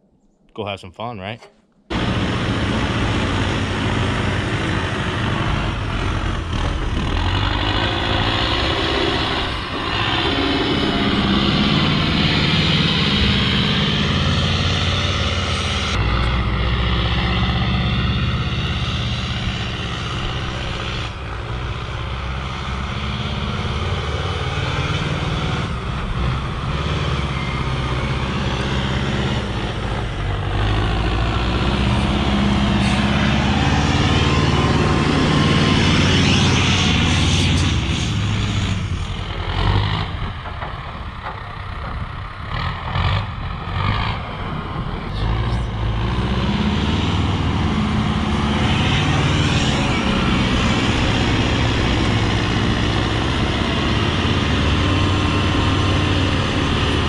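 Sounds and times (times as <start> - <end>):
diesel truck engine under load: 1.4 - 57.0.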